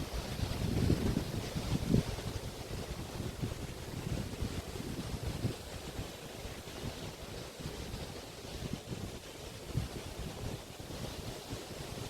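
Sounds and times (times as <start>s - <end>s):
waves washing onto shore: 0.0s - 12.0s
wind buffeting microphone: 0.0s - 12.0s.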